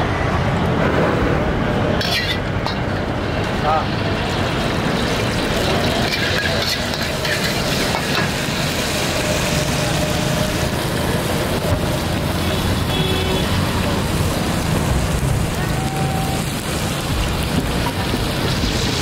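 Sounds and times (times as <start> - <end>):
passing traffic rumble: 0.0 - 19.0.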